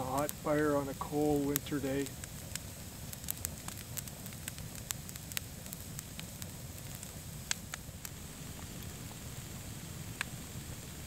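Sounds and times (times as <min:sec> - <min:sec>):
fire popping: 0:00.0 - 0:11.0
wood fire crackling: 0:00.0 - 0:11.0.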